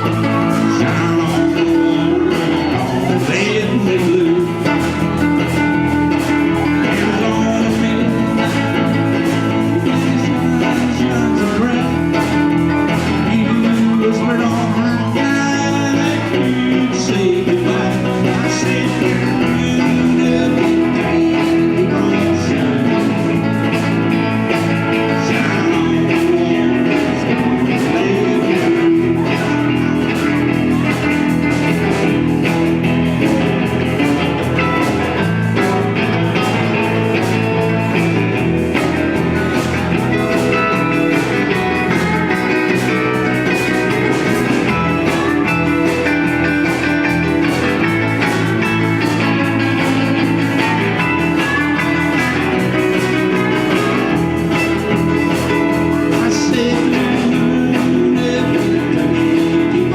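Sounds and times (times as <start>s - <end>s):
blues rock band playing: 0.0s - 59.9s
electric guitar: 0.0s - 59.9s.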